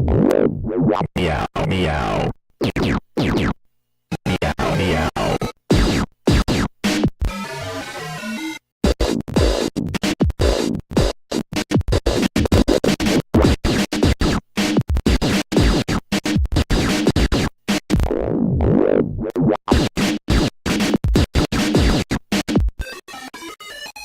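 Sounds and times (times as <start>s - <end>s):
scratch-like effect: 0.0s - 3.6s, 4.2s - 8.2s, 8.8s - 22.8s.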